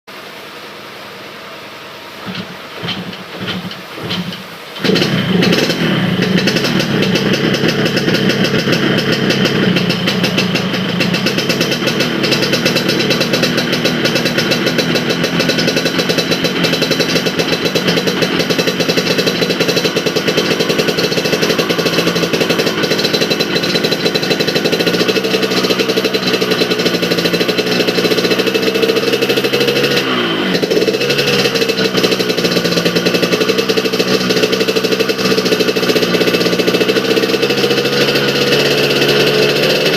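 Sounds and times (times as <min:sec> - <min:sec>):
two-stroke motorcycle engine running: 0:02.2 - 0:39.9.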